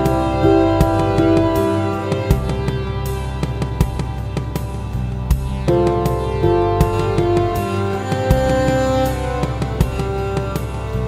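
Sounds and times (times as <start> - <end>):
held instrumental tones: 0.0 - 11.0
steady drum beat: 0.0 - 11.0.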